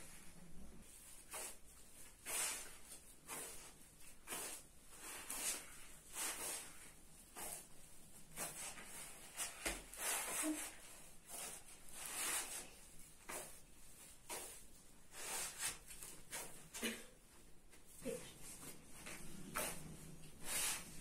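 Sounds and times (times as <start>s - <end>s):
hands kneading dough in bowl: 0.8s - 21.0s.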